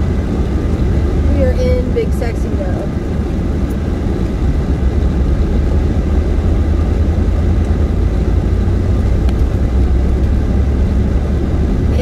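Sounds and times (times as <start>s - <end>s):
truck engine and tyre rumble: 0.0s - 12.0s.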